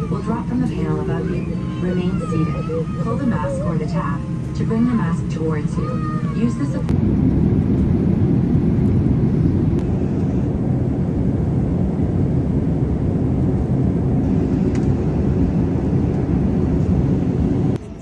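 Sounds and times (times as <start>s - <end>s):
jet cabin engine and airflow rush: 0.0s - 18.0s.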